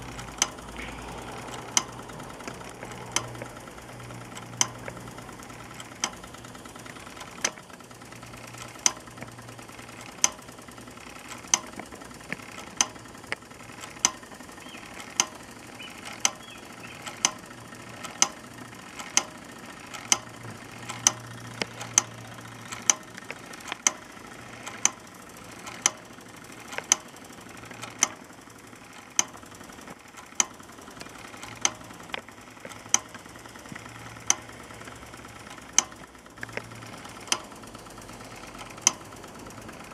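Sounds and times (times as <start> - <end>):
toy steam engine running: 0.0 - 39.9.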